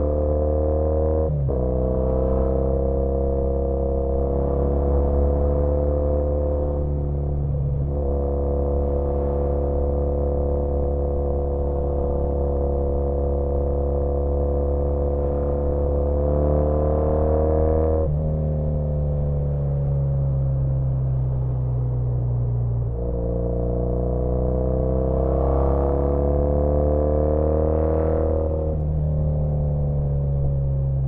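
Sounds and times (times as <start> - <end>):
motorcycle exhaust note: 0.0 - 31.0.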